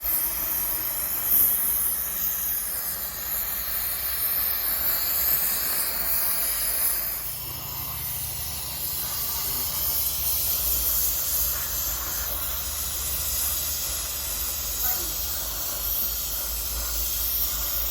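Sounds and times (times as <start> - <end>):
welding torch flame hissing: 0.0 - 17.9.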